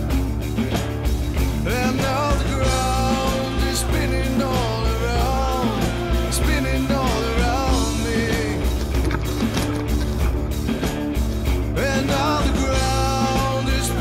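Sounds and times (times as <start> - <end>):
low bass notes: 0.0 - 14.0
rock music with bending lead melody: 0.0 - 14.0.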